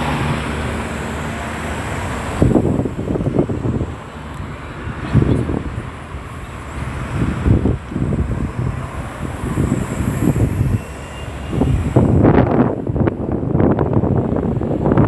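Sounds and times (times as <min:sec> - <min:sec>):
vehicles driving past: 0:00.0 - 0:15.0.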